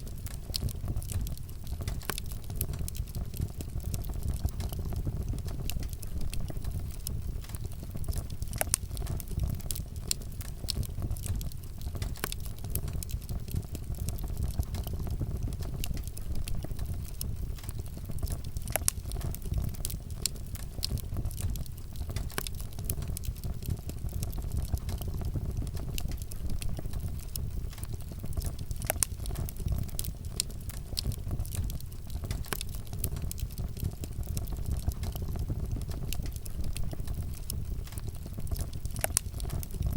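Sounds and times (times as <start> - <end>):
fire rumbling: 0.0 - 39.9
wood crackling and popping: 0.0 - 39.9.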